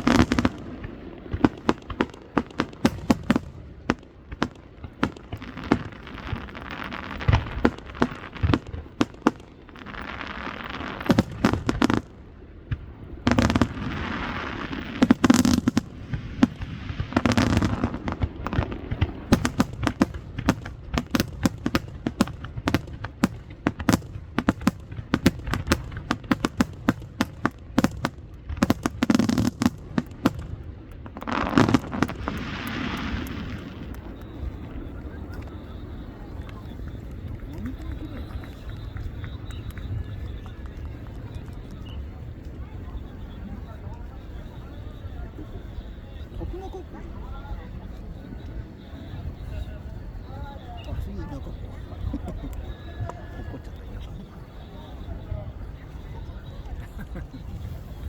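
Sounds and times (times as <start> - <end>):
fireworks bangs: 0.0 - 58.0
hissing crackle: 0.0 - 58.0.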